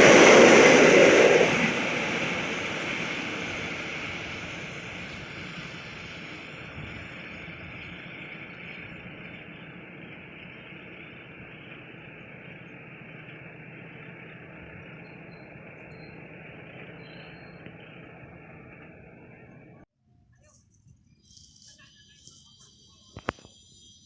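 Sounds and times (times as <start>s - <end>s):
low engine hum: 0.0s - 19.9s.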